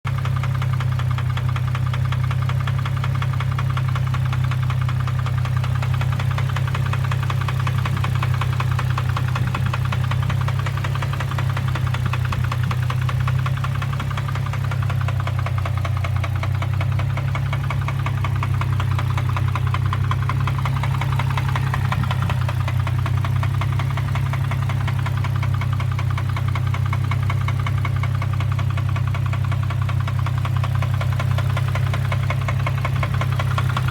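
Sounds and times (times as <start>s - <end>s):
car engine running: 0.1s - 33.9s
rapid knocking inside engine: 0.1s - 33.9s.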